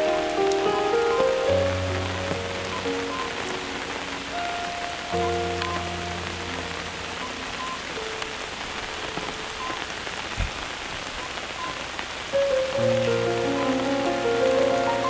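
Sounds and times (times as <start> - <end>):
soft background music: 0.0 - 9.9, 12.4 - 15.0
steady rain falling: 0.0 - 15.0.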